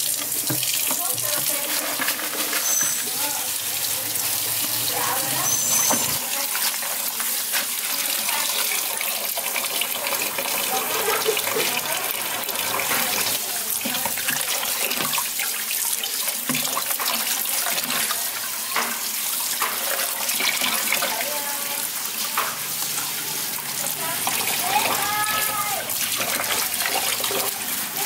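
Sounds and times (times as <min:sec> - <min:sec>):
tap water running into basin: 0:00.0 - 0:28.0.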